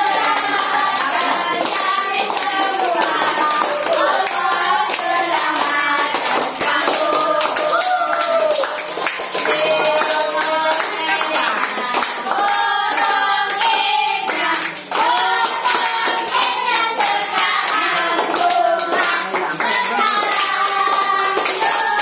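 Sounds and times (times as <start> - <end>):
group singing: 0.0 - 22.0
hands clapping: 0.0 - 22.0.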